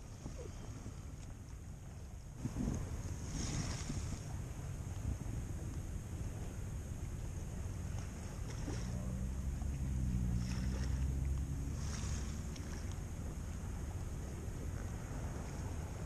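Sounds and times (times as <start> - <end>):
boat motor hum: 0.0 - 16.0
wind rumbling on microphone: 0.0 - 16.0.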